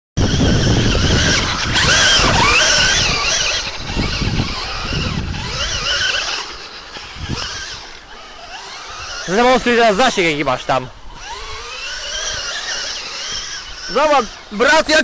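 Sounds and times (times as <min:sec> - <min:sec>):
electric motor whining: 0:00.2 - 0:15.0
tyres churning through sand: 0:00.2 - 0:15.0.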